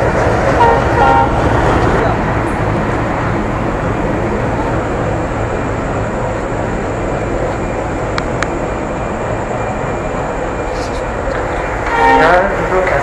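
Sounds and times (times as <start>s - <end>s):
trains running on tracks: 0.0s - 13.0s.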